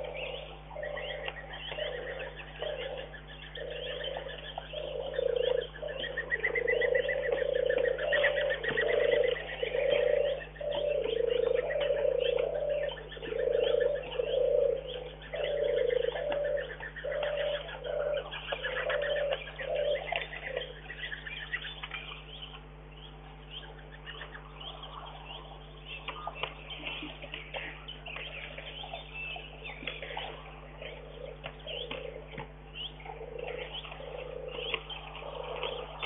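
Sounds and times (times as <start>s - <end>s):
bird cooing: 0.0s - 36.0s
small birds chirping: 0.0s - 36.0s.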